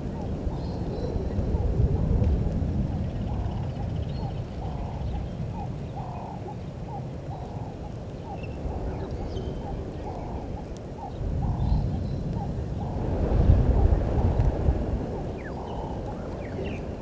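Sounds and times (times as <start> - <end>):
bird calling in a low voice: 0.0 - 13.0, 15.0 - 17.0
steady low rumble: 0.0 - 17.0.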